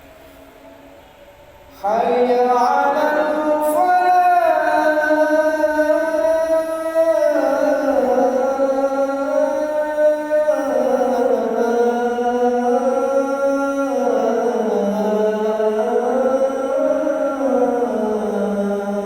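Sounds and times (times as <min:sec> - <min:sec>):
man singing call to prayer: 0:01.8 - 0:19.0.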